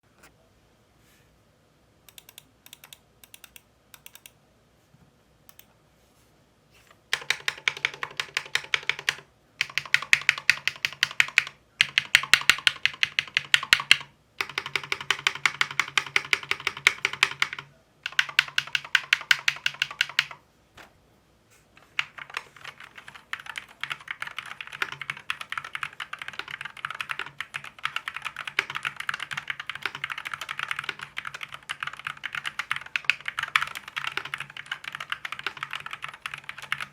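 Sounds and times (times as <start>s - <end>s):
keyboard typing: 2.1s - 4.4s, 7.1s - 20.4s, 21.8s - 36.9s.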